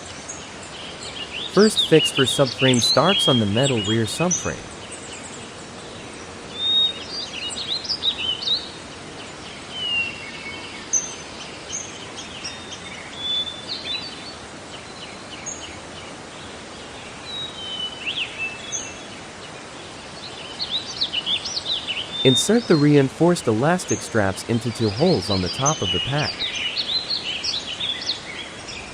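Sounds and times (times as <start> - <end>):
steady background hiss: 0.0 - 6.3, 8.8 - 28.9.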